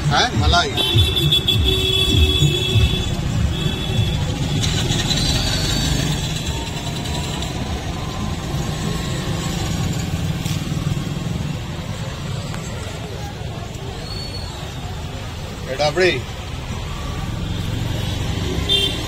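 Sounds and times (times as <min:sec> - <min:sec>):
low engine rumble of vehicles: 0:00.0 - 0:19.0.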